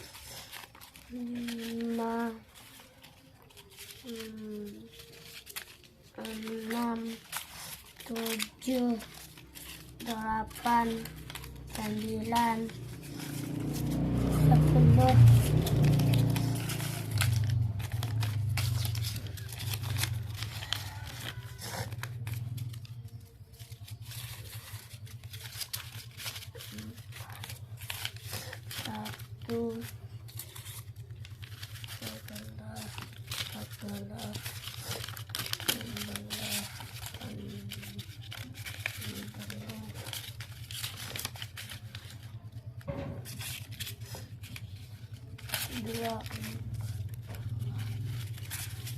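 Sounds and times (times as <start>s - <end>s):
banknotes rustling: 0.0s - 48.9s.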